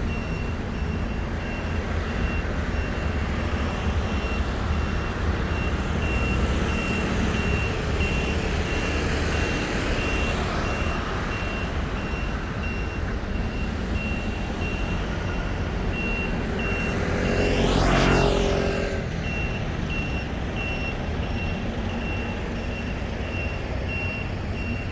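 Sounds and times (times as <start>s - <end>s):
high electronic warning beep: 0.0s - 24.9s.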